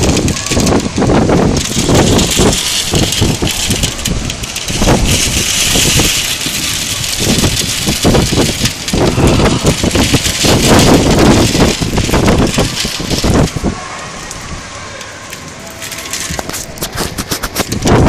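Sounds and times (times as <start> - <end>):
heavy rain hissing: 0.0 - 18.0
low rumbling surges: 0.0 - 18.0.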